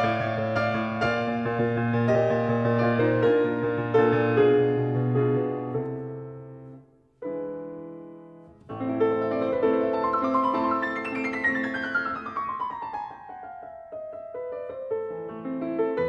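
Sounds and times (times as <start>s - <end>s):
solo piano: 0.0s - 16.0s.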